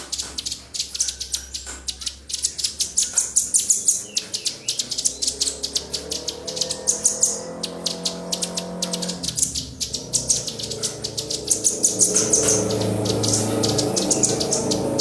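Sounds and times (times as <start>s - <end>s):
small birds chipping: 0.0s - 15.0s.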